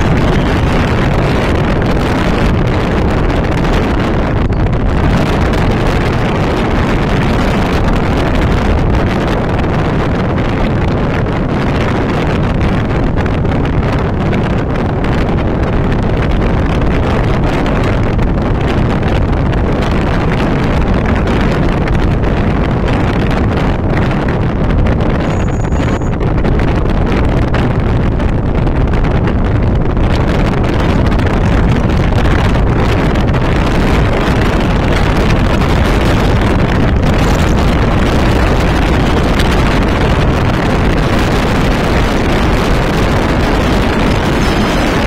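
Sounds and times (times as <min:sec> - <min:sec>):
moving vehicle road and engine noise: 0:00.0 - 0:45.0
wind buffeting microphone: 0:00.0 - 0:45.0.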